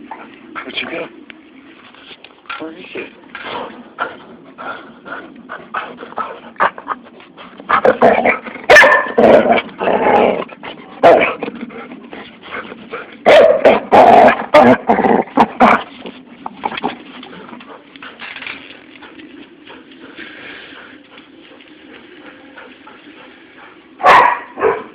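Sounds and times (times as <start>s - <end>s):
dogs barking and growling: 3.4s - 24.9s.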